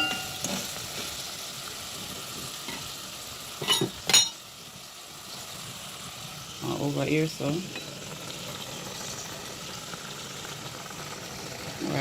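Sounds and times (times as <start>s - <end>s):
sizzling in a hot pan: 0.0s - 12.0s.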